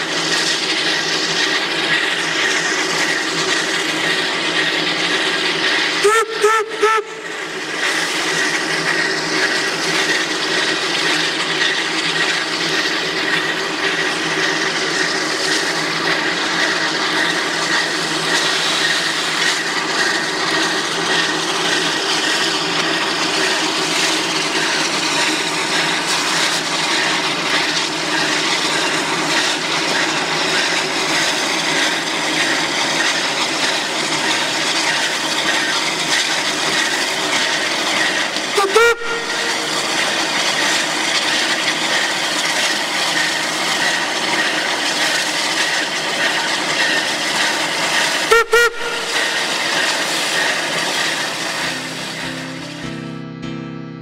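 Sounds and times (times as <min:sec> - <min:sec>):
steam locomotive hissing: 0:00.0 - 0:52.8.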